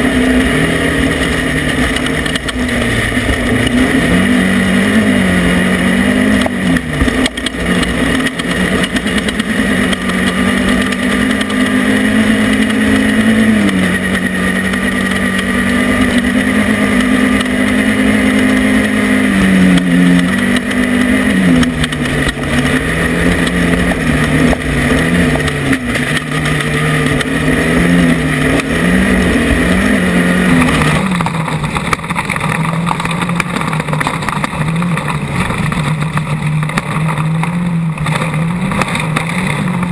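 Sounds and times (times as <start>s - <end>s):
race vehicle engine revving: 0.0s - 39.9s
rush of wind and terrain noise: 0.0s - 39.9s.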